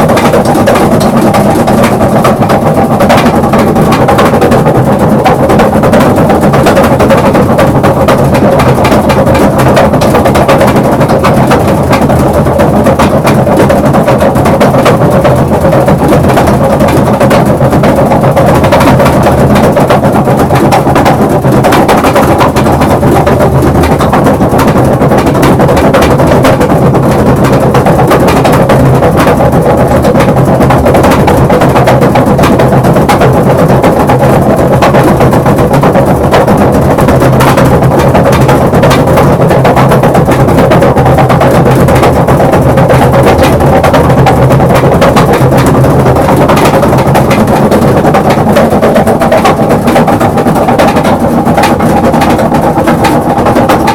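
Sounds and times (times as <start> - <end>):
washing machine hum: 0.0 - 53.9
washing machine rattling: 0.0 - 53.9.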